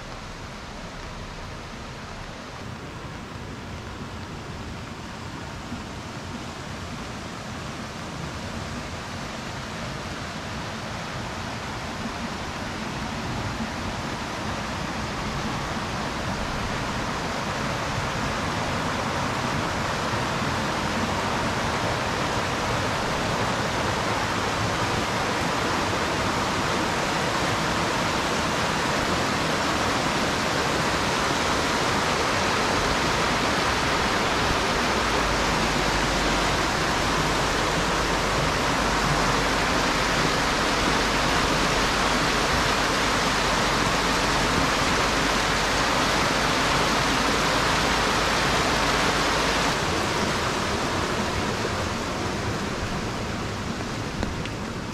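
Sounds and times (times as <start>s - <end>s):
creek rushing over rocks: 0.0s - 54.9s.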